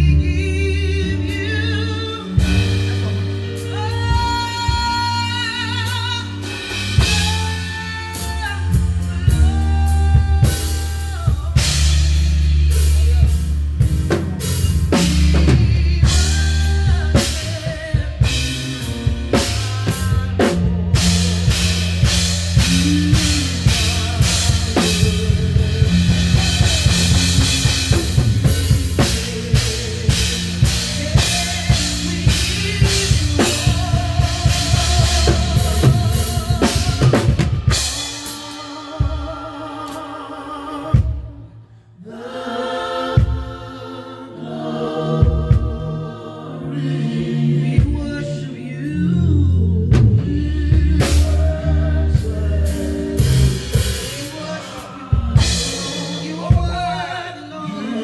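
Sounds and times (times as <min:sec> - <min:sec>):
bass line: 0:00.0 - 0:38.0, 0:46.7 - 0:57.1
drum kit beat: 0:01.0 - 0:40.2, 0:43.0 - 0:43.8, 0:45.1 - 0:46.2, 0:47.7 - 0:48.4, 0:49.9 - 0:57.4.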